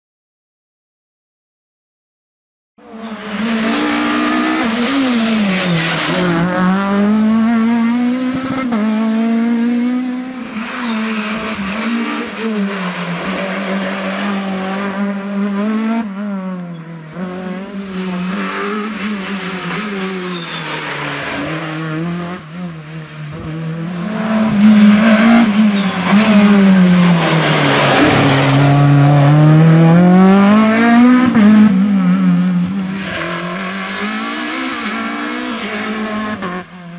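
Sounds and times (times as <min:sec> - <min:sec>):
rally car engine revving: 0:02.8 - 0:36.9.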